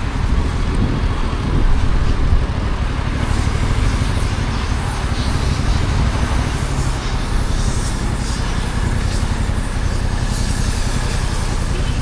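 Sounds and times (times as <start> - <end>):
motorcycle engine rumble: 0.0 - 12.0
road and wind noise: 0.0 - 12.0.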